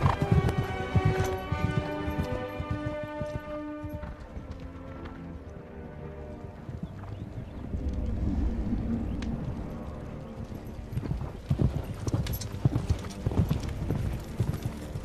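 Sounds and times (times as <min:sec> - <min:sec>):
horses galloping: 0:00.0 - 0:08.1, 0:09.0 - 0:15.0.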